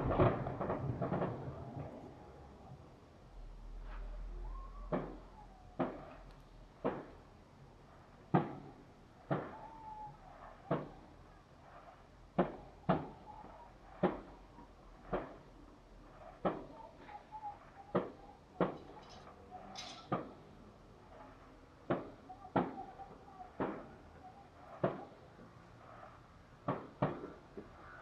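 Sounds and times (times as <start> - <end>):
fireworks bursting with echo: 0.0 - 2.2, 3.8 - 28.0.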